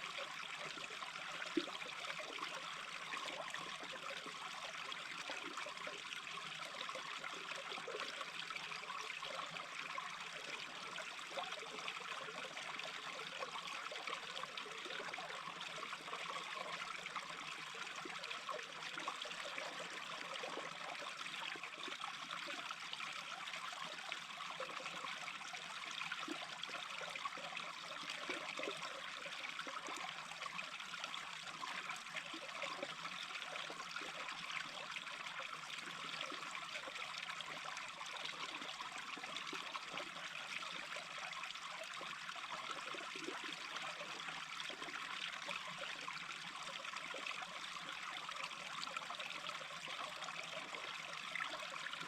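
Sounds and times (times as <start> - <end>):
stream babbling over stones: 0.0 - 52.0.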